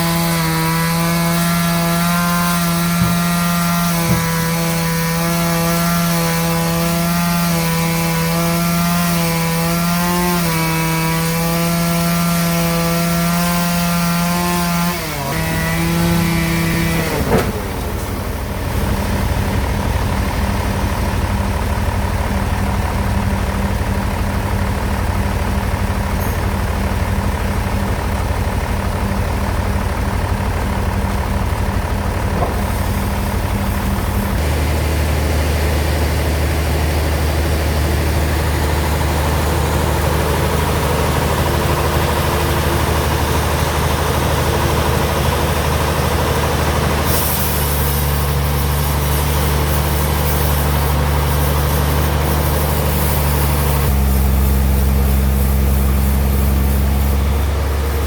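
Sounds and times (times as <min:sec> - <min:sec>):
bandsaw machinery humming: 0:00.0 - 0:58.0.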